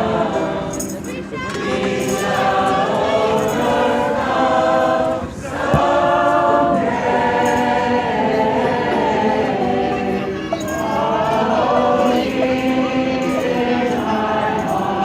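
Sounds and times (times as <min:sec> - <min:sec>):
crowd singing in unison: 0:00.0 - 0:15.0.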